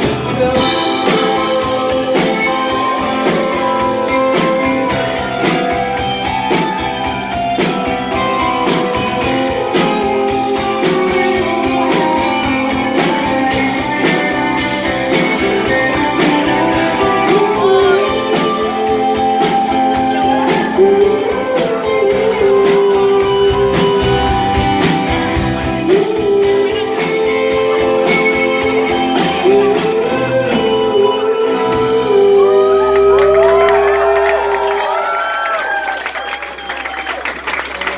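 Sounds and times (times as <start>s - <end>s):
acoustic guitar strumming: 0.0s - 33.2s
man singing: 0.0s - 35.0s
drums: 0.0s - 37.9s.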